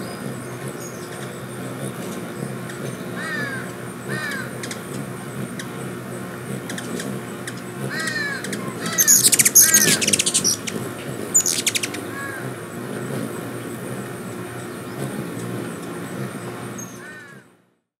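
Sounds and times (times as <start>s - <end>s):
hummingbird squeaky chatter: 0.0s - 17.0s.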